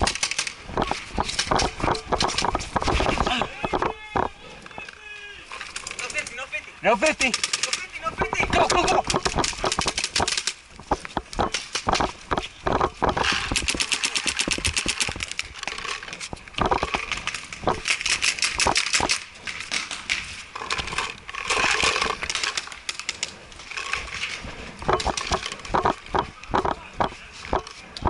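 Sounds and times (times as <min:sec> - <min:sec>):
paintball markers firing: 0:00.0 - 0:04.4, 0:07.0 - 0:24.2, 0:24.8 - 0:28.0.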